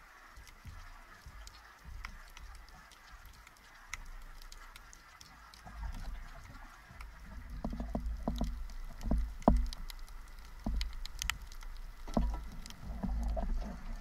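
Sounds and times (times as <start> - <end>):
moving water rumble: 0.0 - 14.0
underwater knocks and clicks: 0.0 - 14.0.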